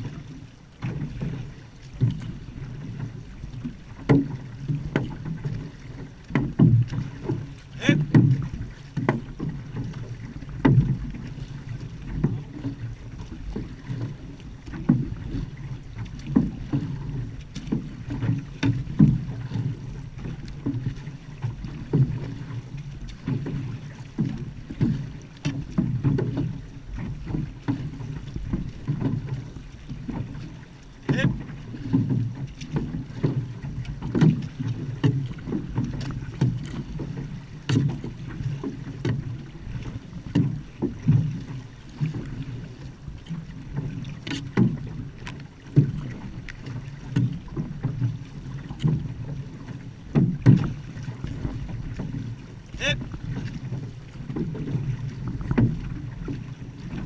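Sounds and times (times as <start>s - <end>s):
paddles stroking water: 0.0s - 57.0s.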